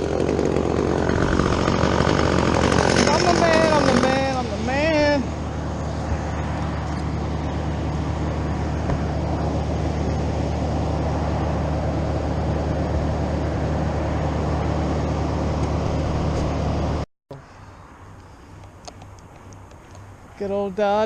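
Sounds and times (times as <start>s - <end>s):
engine drone: 0.0s - 20.3s.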